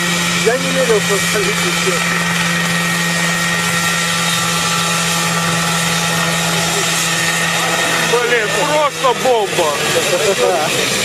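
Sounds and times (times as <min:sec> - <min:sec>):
aircraft engine and rotors humming: 0:00.0 - 0:11.0.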